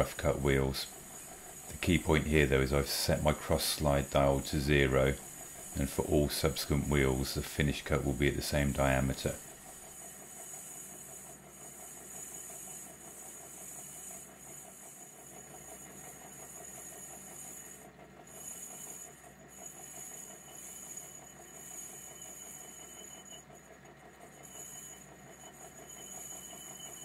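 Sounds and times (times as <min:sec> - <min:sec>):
lathe cutting metal: 0:00.0 - 0:23.6, 0:24.3 - 0:27.0.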